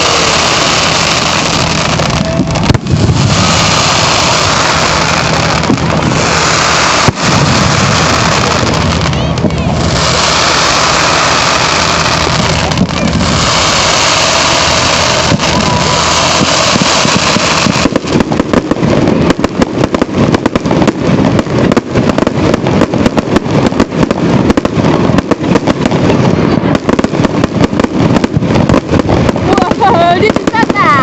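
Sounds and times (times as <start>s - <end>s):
fireworks bangs and crackles: 0.0s - 31.0s
fireworks rushing noise: 0.0s - 31.0s.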